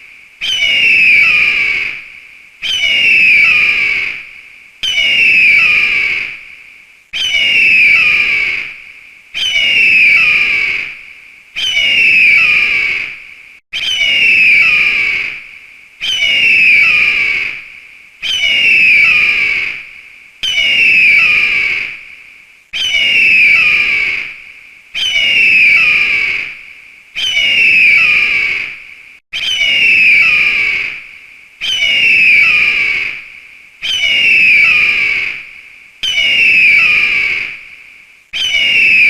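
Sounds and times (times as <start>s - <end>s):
eagle screaming: 0.4s - 6.4s, 7.2s - 8.8s, 9.4s - 11.0s, 11.6s - 13.2s, 13.8s - 15.4s, 16.0s - 22.0s, 22.8s - 24.4s, 25.0s - 26.6s, 27.2s - 28.8s, 29.4s - 31.0s, 31.6s - 37.6s, 38.4s - 39.0s.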